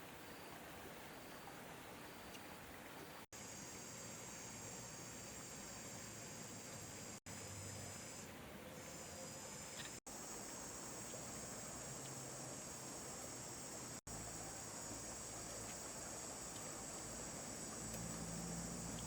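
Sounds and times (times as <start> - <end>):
high-pitched insect chorus: 3.4 - 19.0.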